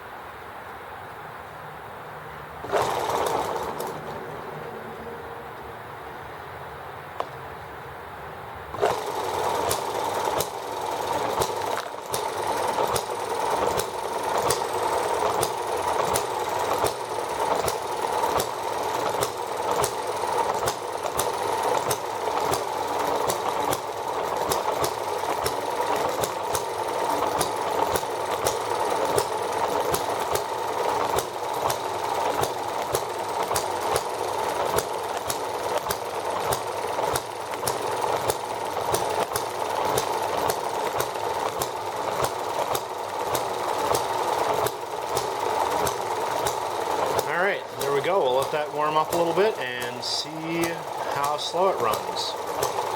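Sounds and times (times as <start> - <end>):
hit-and-miss engine running: 2.6 - 6.0, 8.7 - 52.9.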